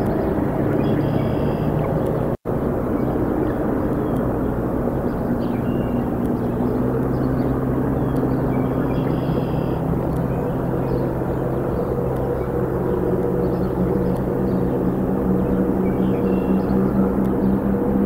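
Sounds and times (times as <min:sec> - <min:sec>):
low engine-like drone: 0:00.0 - 0:18.0
outdoor background noise: 0:00.0 - 0:18.0.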